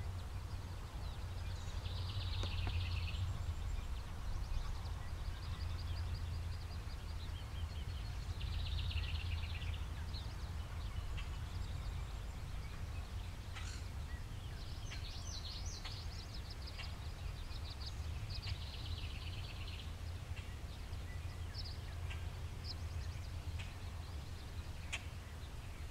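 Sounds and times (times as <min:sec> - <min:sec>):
birds chirping: 0:00.0 - 0:25.9
low outdoor rumble: 0:00.0 - 0:25.9.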